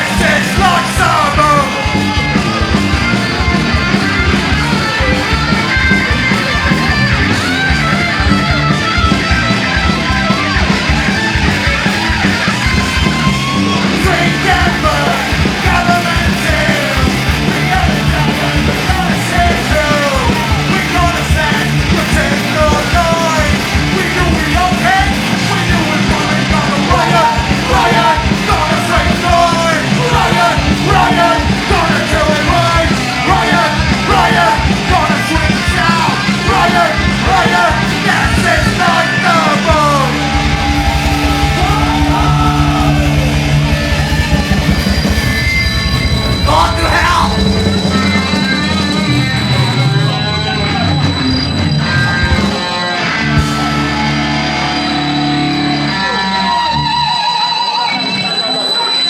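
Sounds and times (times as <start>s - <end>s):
shouted lead vocal: 0.0s - 51.2s
punk rock band playing: 0.0s - 59.0s.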